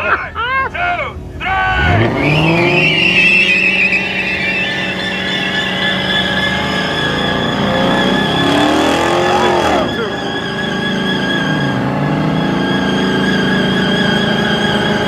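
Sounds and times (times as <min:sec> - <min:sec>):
engines revving hard: 0:00.0 - 0:15.0.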